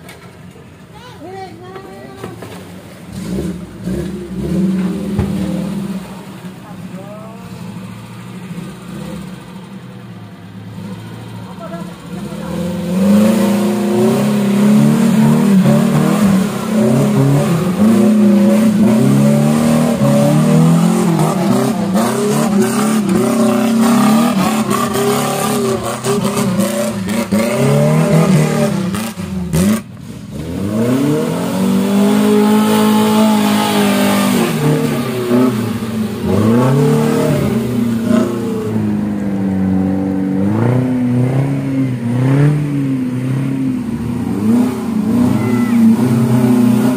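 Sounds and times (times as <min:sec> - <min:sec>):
off-road car engine revving: 0:02.3 - 0:46.9.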